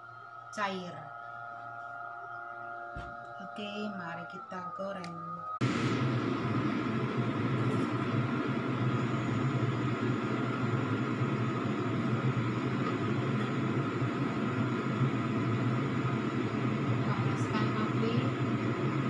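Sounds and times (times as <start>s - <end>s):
faint high whine: 0.0s - 19.0s
steady mechanical hum: 0.0s - 19.0s.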